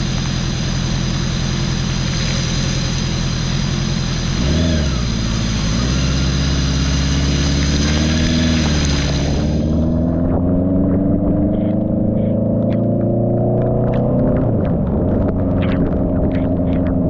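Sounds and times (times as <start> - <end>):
motorcycle engine revving: 0.0 - 17.0
steady rushing noise: 0.0 - 17.0.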